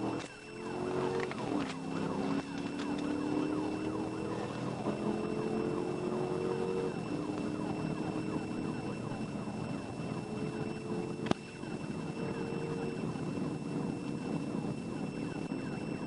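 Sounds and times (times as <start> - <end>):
car engine accelerating: 0.0 - 16.0
police siren wailing: 0.0 - 16.0.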